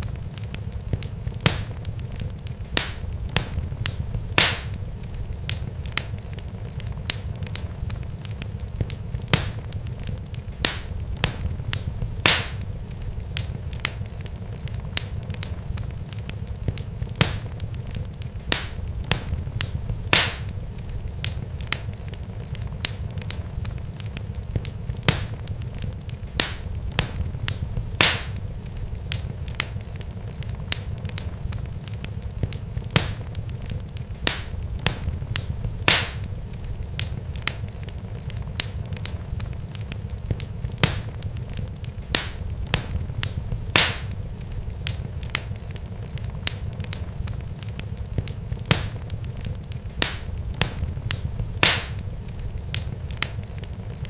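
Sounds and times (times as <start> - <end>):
sharp pops and crackles: 0.0 - 54.0
steady low rumble: 0.0 - 54.0.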